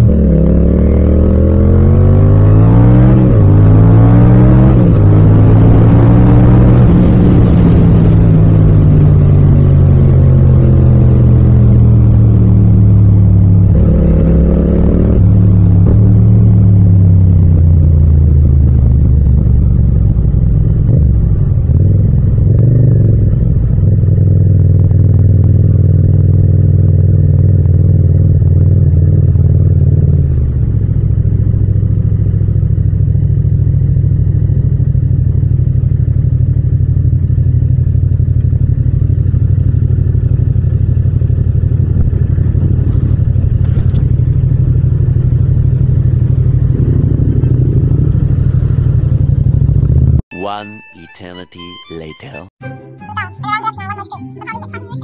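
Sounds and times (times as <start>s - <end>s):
motorcycle engine running: 0.0s - 50.2s.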